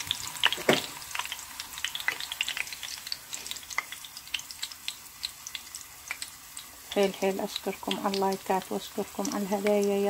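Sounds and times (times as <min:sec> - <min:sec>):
oil sizzling and popping: 0:00.0 - 0:10.0.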